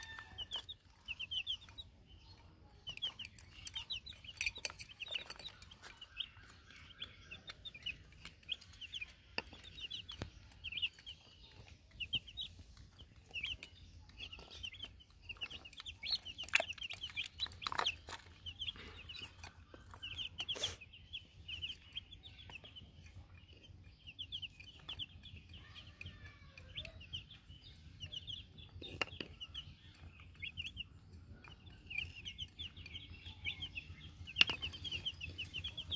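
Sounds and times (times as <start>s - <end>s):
baby chicks peeping: 0.0s - 35.9s.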